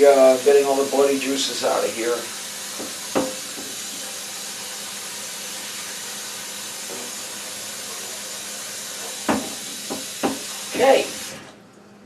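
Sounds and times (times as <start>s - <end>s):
tap water running into sink: 0.0s - 11.5s.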